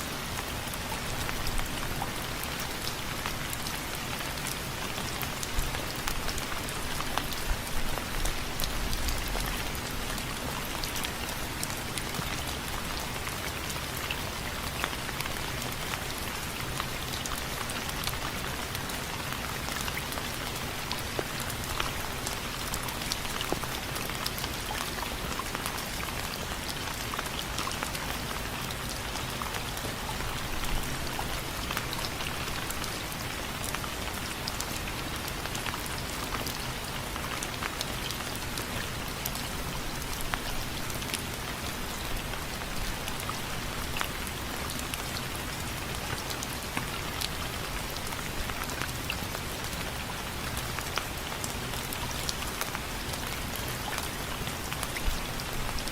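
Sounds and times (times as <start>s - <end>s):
rainfall hiss: 0.0s - 55.9s.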